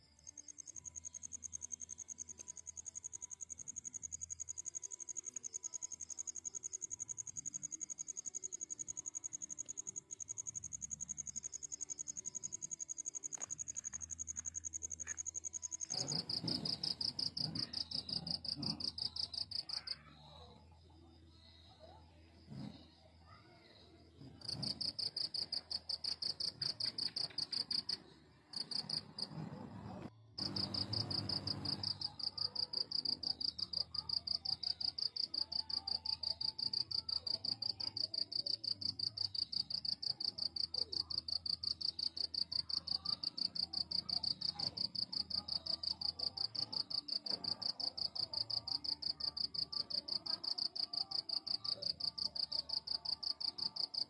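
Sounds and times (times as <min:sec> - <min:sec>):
cricket chirping: 0:00.0 - 0:20.4, 0:21.3 - 0:29.4, 0:30.4 - 0:54.0.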